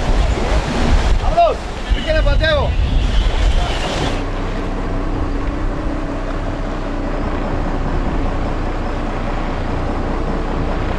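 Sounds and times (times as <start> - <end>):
boat engine humming: 0.0 - 10.9
rushing water noise: 0.0 - 10.9.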